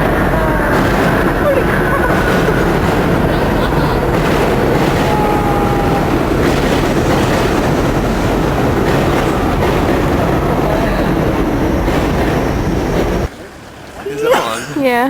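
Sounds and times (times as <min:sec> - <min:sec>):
moving vehicle rumble and rattle: 0:00.0 - 0:13.9
faint high squeals: 0:00.0 - 0:14.8.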